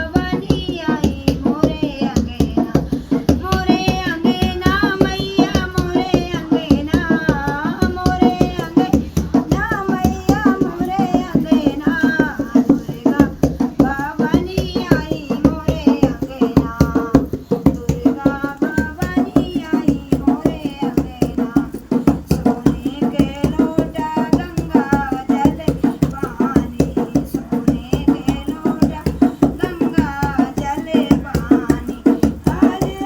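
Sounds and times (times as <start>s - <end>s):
fast drum beat: 0.0s - 33.0s
woman singing devotional song: 0.0s - 33.0s.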